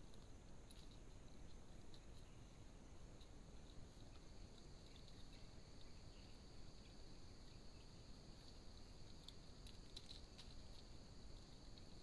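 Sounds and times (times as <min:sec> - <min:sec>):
faint high-pitched hiss: 0:00.0 - 0:12.0.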